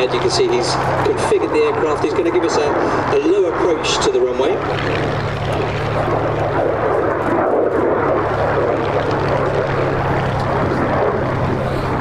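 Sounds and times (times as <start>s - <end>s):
jet roar flying past: 0.0s - 12.0s
low hum: 0.0s - 12.0s.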